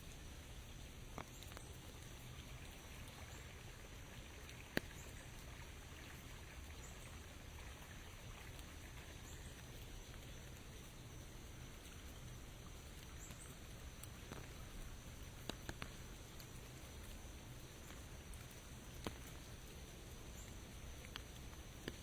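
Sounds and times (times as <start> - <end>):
light rain hissing: 0.0 - 22.0.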